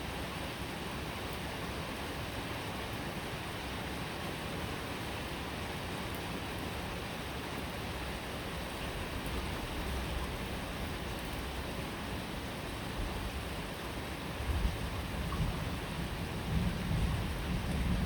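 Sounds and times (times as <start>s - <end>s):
rain falling: 0.9s - 18.0s.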